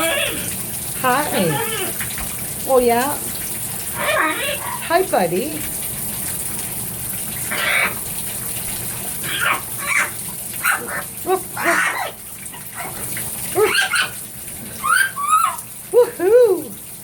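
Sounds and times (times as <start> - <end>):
shower spray running: 0.0 - 17.0.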